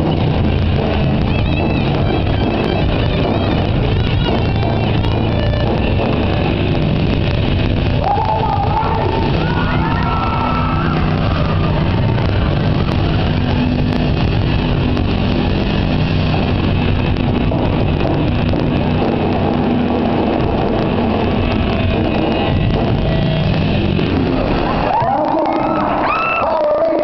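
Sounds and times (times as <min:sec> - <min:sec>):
rock band playing live: 0:00.0 - 0:27.0.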